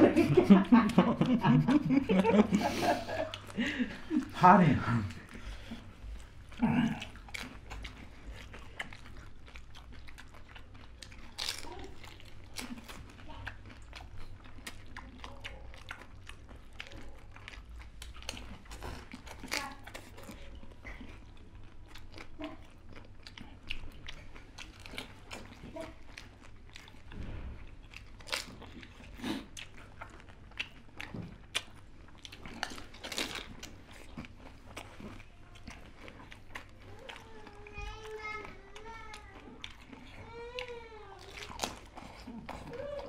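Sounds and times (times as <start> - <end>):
crunching while eating: 4.2 - 43.0.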